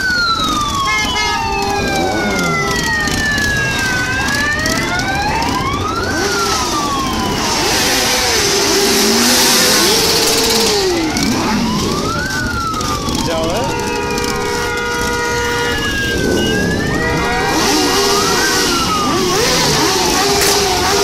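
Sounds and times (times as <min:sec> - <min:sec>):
motorcycle engines revving: 0:00.0 - 0:21.0
siren wailing: 0:00.0 - 0:21.0.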